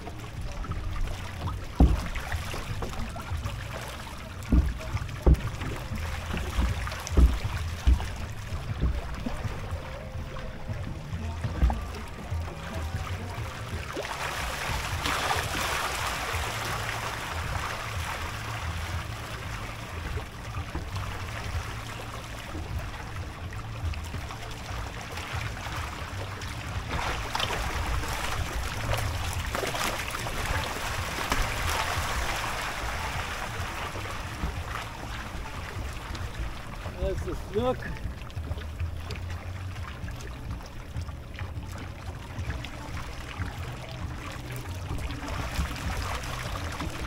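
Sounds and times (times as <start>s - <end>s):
low rumble: 0.0s - 47.0s
water lapping against kayak hull: 0.0s - 47.0s.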